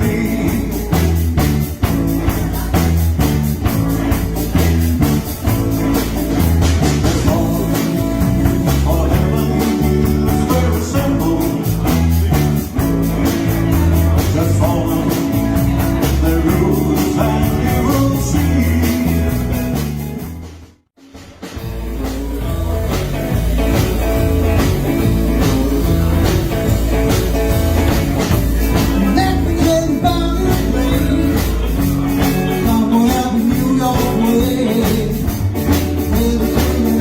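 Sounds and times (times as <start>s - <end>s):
live rock and roll band: 0.0s - 37.0s.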